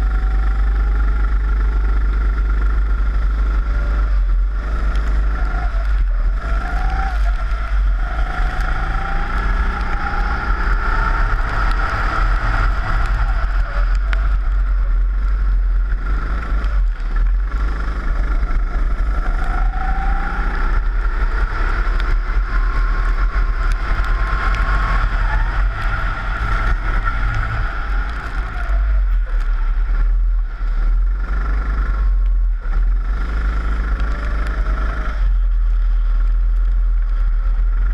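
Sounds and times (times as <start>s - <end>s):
kart engine revving: 0.0s - 35.5s.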